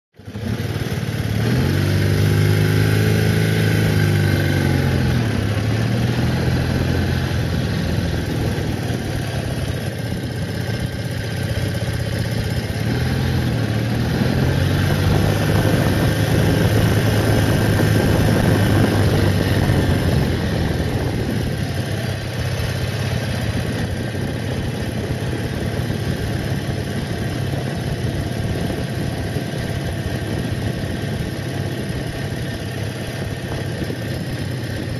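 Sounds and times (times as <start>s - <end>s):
motorcycle engine running: 0.2s - 34.9s
wind and road noise: 0.2s - 34.9s.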